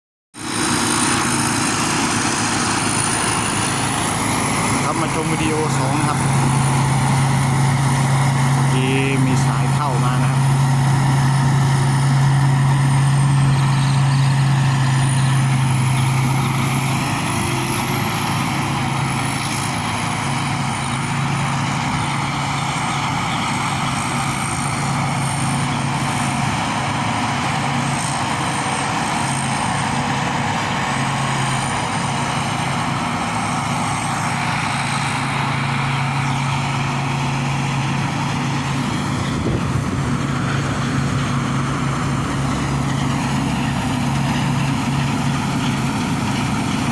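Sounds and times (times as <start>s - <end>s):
combine harvester engine drone: 0.4s - 46.9s.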